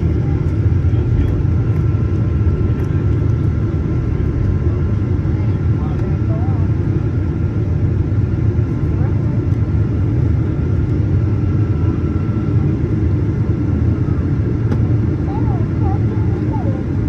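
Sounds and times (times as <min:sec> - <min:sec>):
airplane engines and airflow in cabin: 0:00.0 - 0:17.0.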